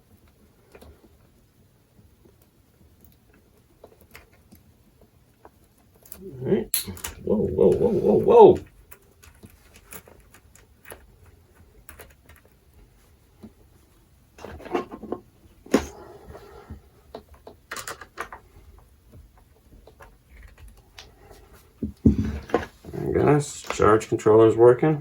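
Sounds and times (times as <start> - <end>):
hands working on wiring: 2.2 - 13.8, 14.4 - 24.0.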